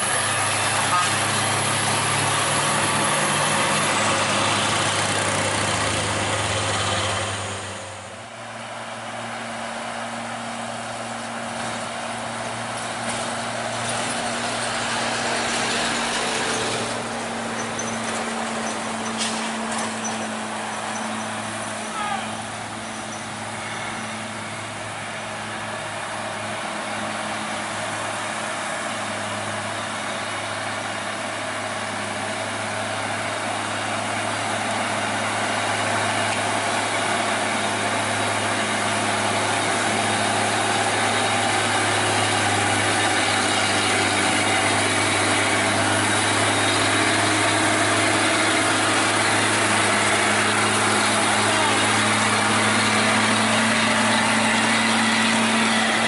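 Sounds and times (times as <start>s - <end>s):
diesel truck engine climbing: 0.0s - 56.0s.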